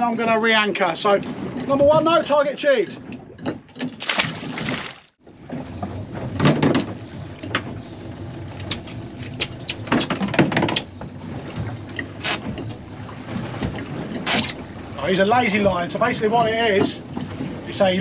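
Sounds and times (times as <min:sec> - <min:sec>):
water around a boat: 0:00.0 - 0:18.0.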